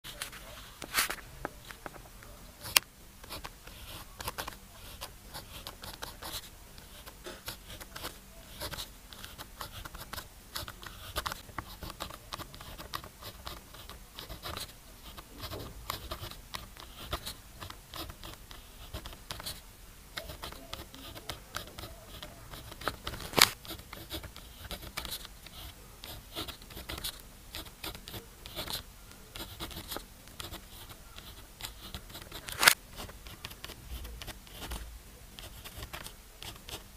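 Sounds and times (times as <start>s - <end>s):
pen scratching on paper: 2.6s - 19.6s, 20.2s - 36.9s.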